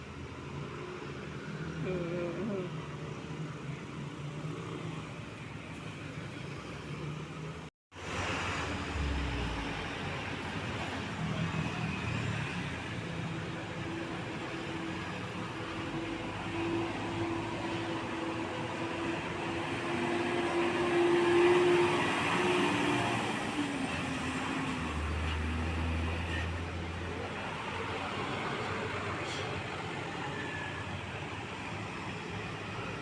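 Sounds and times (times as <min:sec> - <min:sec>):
heavy trucks driving past: 0:00.0 - 0:33.0.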